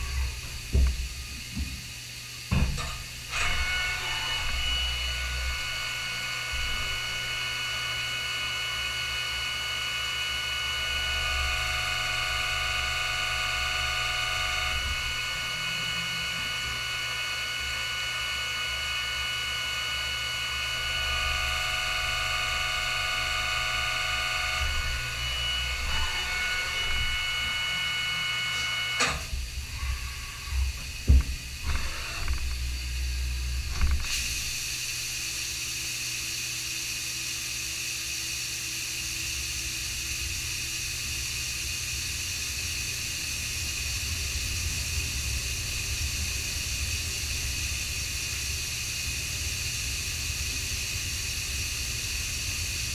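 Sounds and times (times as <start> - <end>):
lathe machine whine: 2.8 - 52.9.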